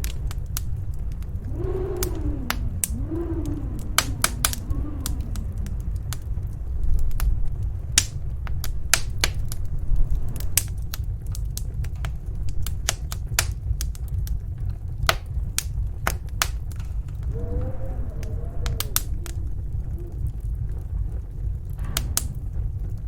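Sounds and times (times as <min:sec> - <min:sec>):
faint wind howl: 0:00.0 - 0:23.0
fire crackling in fireplace: 0:00.0 - 0:23.0
low fire rumble: 0:00.0 - 0:23.0.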